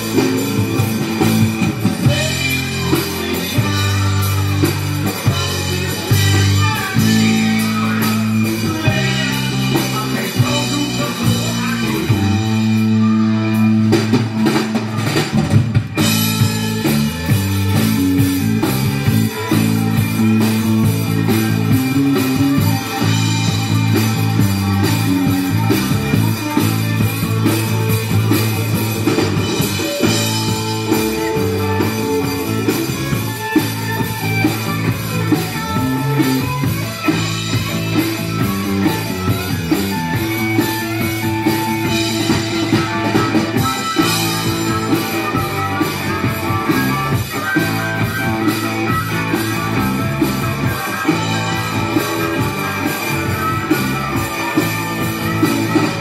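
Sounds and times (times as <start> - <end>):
drum kit with cymbals: 0.0 - 56.0
electric guitar: 0.0 - 56.0.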